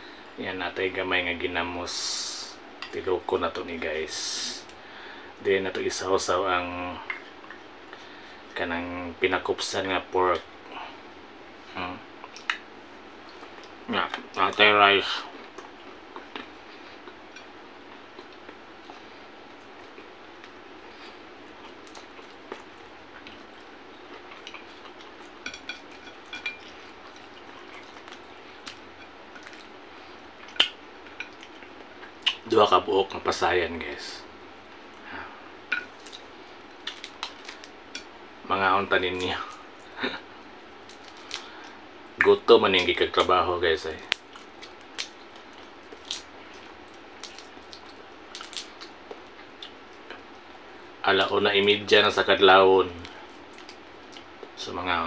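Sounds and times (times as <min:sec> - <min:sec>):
steady low hiss: 0:00.0 - 0:55.0.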